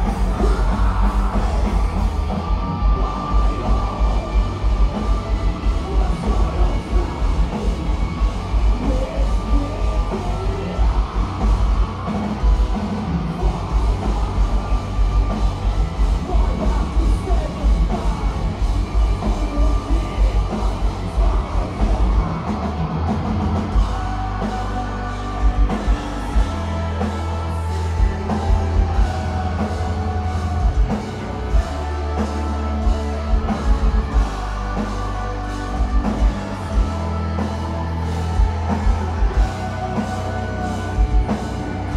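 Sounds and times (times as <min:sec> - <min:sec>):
distorted guitars: 0:00.0 - 0:41.9
rapid heavy drumming: 0:00.0 - 0:41.9.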